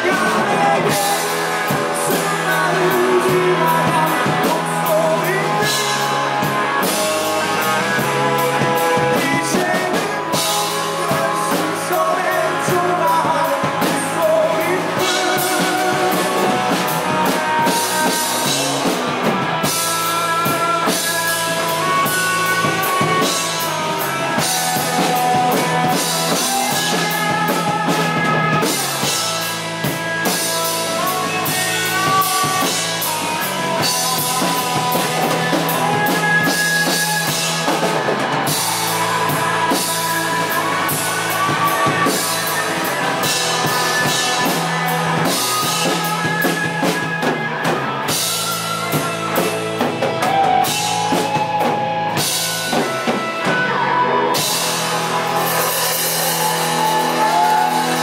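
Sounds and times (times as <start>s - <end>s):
drum kit with cymbals: 0.0s - 58.0s
electric bass: 0.0s - 58.0s
electric guitars: 0.0s - 58.0s.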